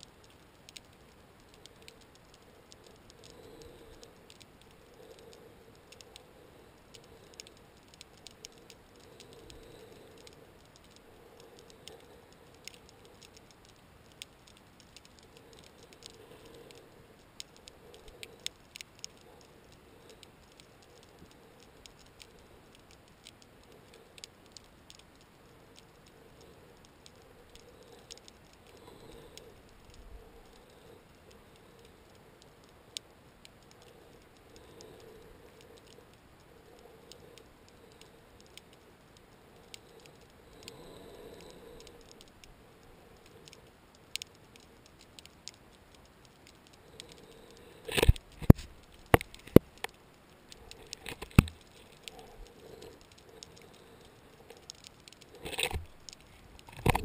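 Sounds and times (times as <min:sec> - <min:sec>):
underwater crackling clicks: 0:00.0 - 0:57.0.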